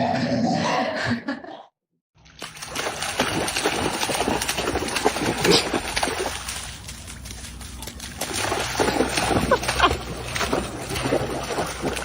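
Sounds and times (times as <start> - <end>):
water splashing and sloshing: 2.2 - 12.0.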